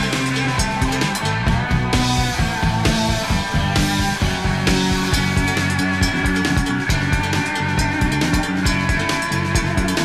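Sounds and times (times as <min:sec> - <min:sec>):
rock music with electric guitar: 0:00.0 - 0:10.0
steady drum beat: 0:00.0 - 0:10.0.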